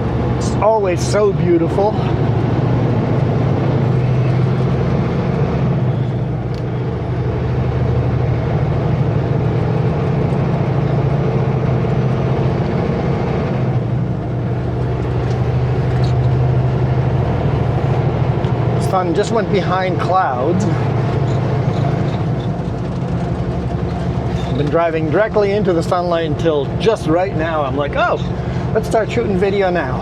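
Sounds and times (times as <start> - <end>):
road noise: 0.0 - 30.0
truck diesel engine running: 0.0 - 30.0.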